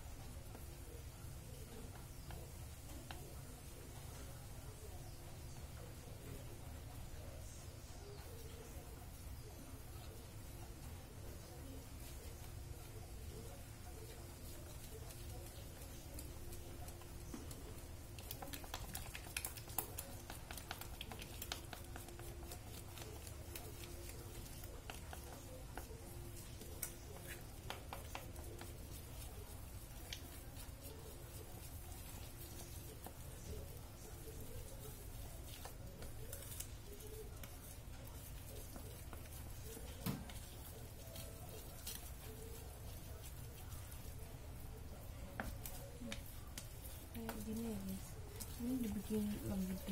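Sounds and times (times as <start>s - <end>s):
wet patter of stirred batter: 0.0s - 49.9s.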